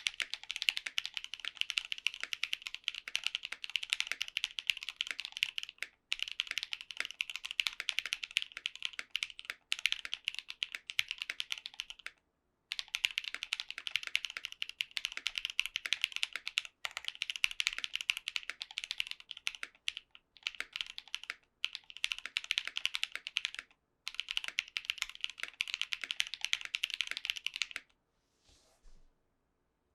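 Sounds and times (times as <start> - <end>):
fast typing on mechanical keyboard: 0.0 - 27.9.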